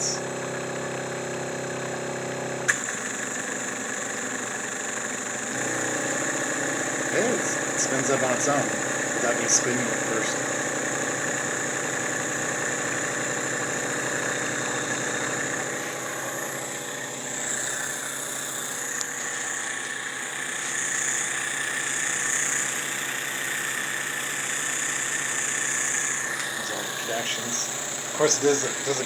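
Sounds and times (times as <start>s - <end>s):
model jet engine hum: 2.6s - 29.0s.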